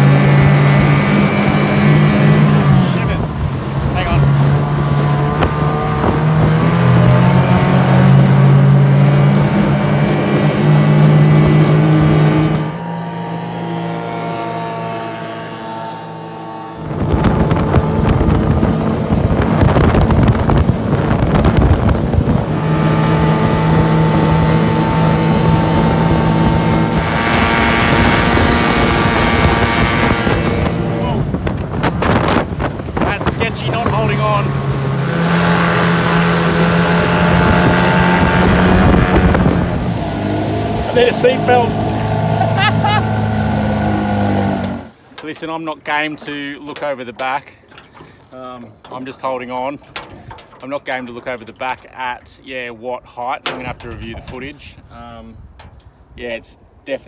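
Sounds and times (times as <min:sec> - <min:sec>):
water spray and wind rushing: 0:00.0 - 0:14.8, 0:16.8 - 0:56.9
outboard motor running: 0:00.0 - 0:52.2, 0:53.4 - 0:56.2.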